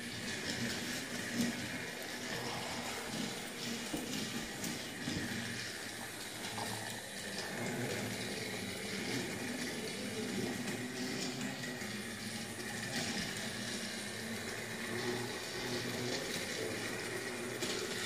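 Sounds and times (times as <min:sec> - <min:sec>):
toy train whirring: 0:00.0 - 0:18.0.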